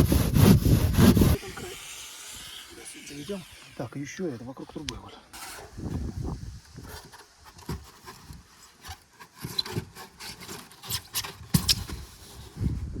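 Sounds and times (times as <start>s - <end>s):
polystyrene boards scraping: 0.0s - 3.4s, 5.3s - 13.0s.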